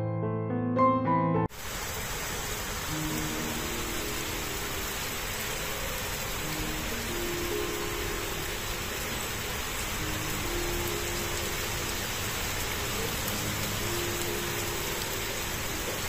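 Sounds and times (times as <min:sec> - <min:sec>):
steady rain: 0:01.5 - 0:16.0.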